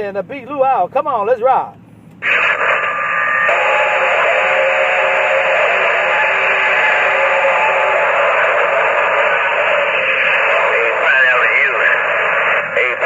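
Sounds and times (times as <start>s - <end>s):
faint steady tones: 0.0s - 13.0s
radio static hiss: 2.1s - 13.0s.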